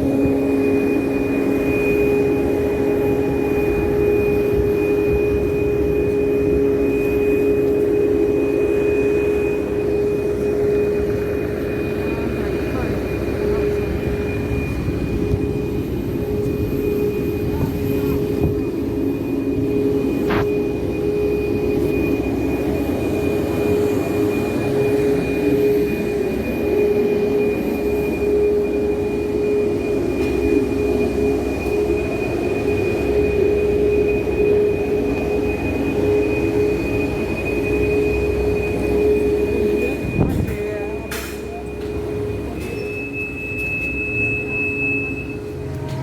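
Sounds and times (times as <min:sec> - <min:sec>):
jet engines rumbling in cabin: 0:00.0 - 0:46.0.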